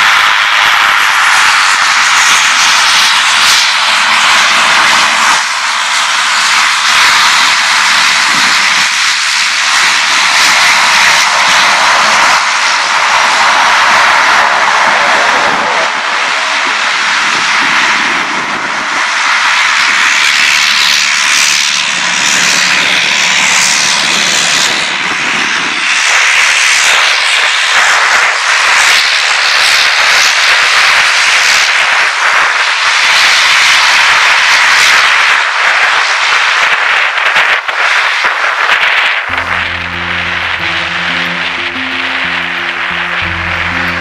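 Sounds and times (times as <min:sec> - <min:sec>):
turboprop engines running: 0:00.0 - 0:35.6, 0:39.1 - 0:44.0.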